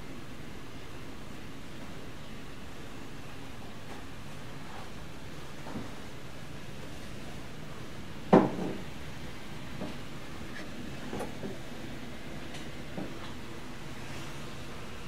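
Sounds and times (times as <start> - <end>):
room tone hiss: 0.0 - 15.0.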